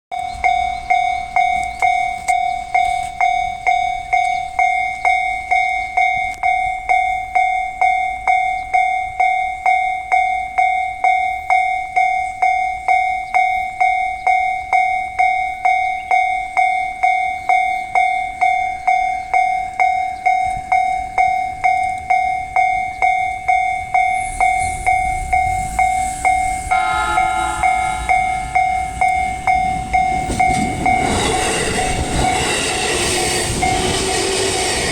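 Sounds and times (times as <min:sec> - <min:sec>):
electric train approaching: 0:00.2 - 0:34.9
level-crossing alarm bell ringing: 0:00.2 - 0:34.9.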